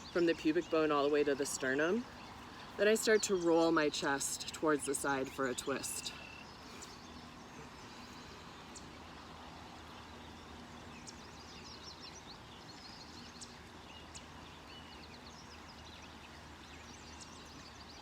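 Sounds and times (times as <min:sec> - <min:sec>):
birds chirping and trilling: 0:00.0 - 0:18.0.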